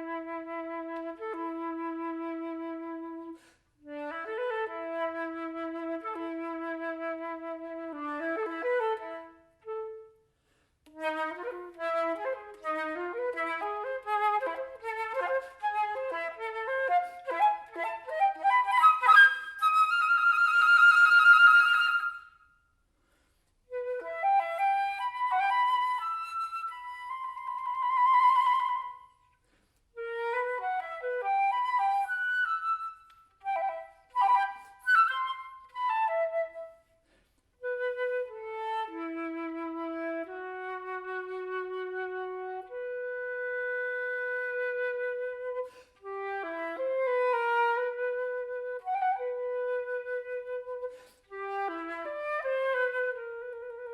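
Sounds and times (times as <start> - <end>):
solo flute playing: 0.0 - 10.3, 10.9 - 22.6, 23.6 - 53.9.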